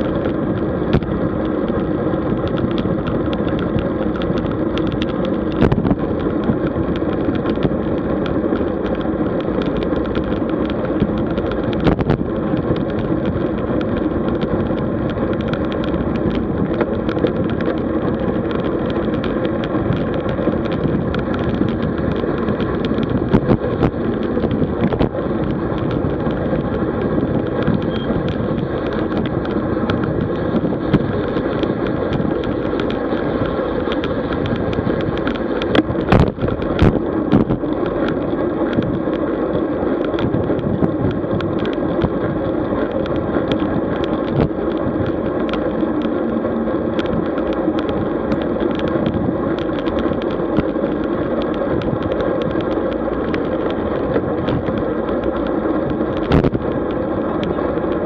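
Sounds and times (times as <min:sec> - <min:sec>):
bike tyre road noise: 0:00.0 - 0:58.0
wind on microphone: 0:00.0 - 0:58.0.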